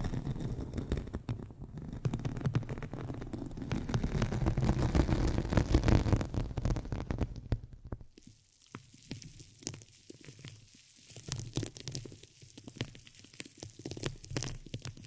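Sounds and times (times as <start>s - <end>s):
crackling and scratching on microphone: 0.0s - 15.0s.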